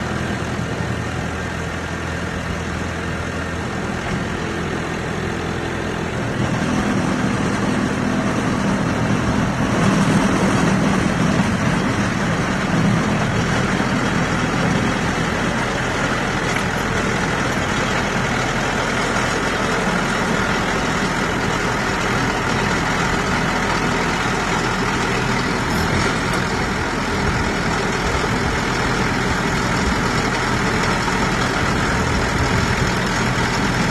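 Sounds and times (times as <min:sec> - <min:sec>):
drilling rig engine running: 0:00.0 - 0:33.9.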